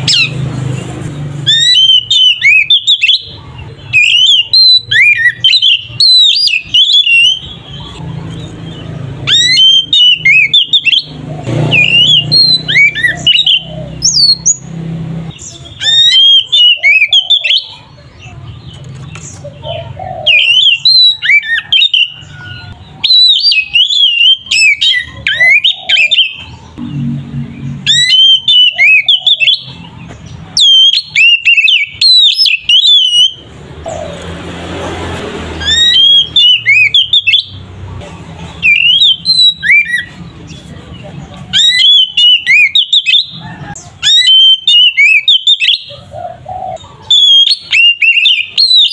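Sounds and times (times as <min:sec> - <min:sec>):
bird singing whistled notes: 0:01.4 - 0:17.9, 0:19.7 - 0:29.9, 0:30.5 - 0:34.0, 0:35.6 - 0:37.7, 0:38.6 - 0:40.6, 0:41.5 - 0:43.4, 0:44.0 - 0:46.0, 0:47.0 - 0:48.9.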